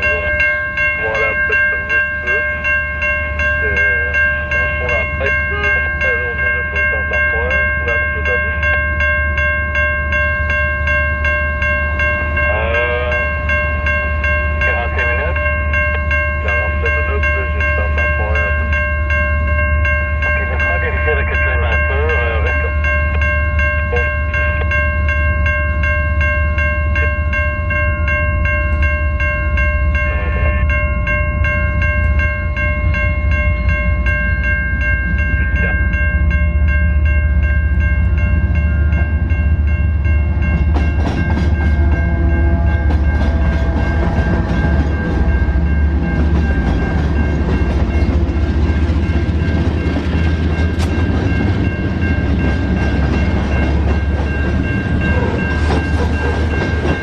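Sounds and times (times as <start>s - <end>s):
level crossing bell ringing: 0.0s - 57.0s
train cars rattling: 0.0s - 57.0s
train passing: 0.0s - 57.0s.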